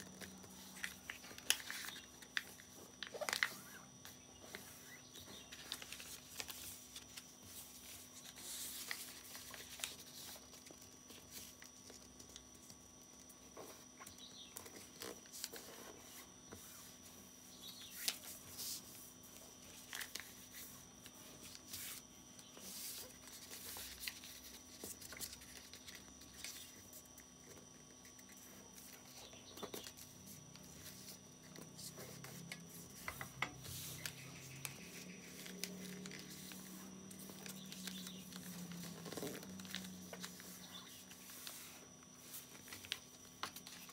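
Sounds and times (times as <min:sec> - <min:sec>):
faint hum: 0:00.0 - 0:43.9
paper rustling and crinkling: 0:00.0 - 0:43.9.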